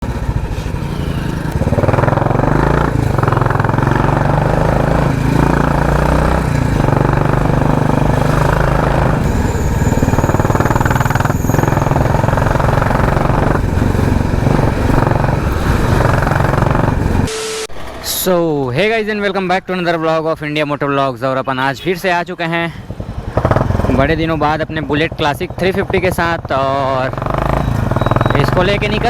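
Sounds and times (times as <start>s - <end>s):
motorcycle engine running loud: 0.0s - 17.3s, 22.8s - 29.0s.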